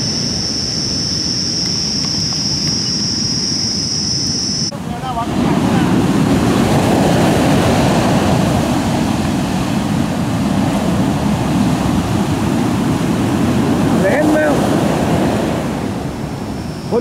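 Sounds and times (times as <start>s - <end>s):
storm surf breaking: 0.0s - 17.0s
wind buffeting microphone: 0.0s - 17.0s.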